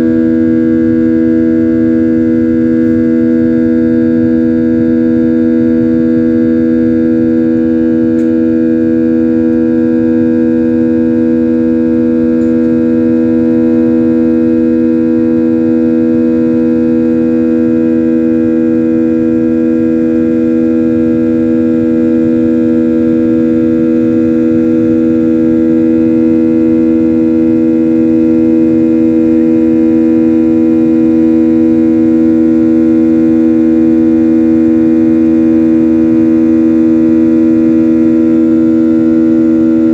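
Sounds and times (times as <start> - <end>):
airliner engine drone: 0.0 - 14.3, 14.9 - 39.9.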